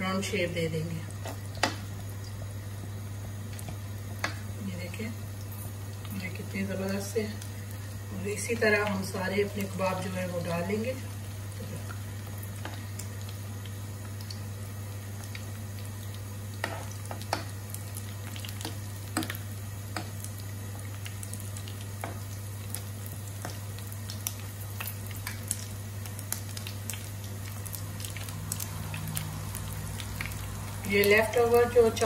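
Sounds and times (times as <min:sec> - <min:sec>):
patties sizzling in oil: 0:00.0 - 0:32.0
steady low hum: 0:00.0 - 0:32.0.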